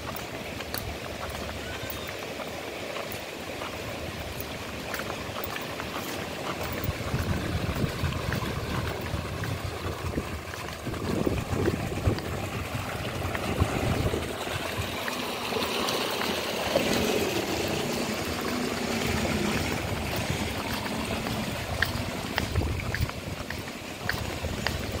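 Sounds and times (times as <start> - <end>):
water running in a channel: 0.0 - 25.0.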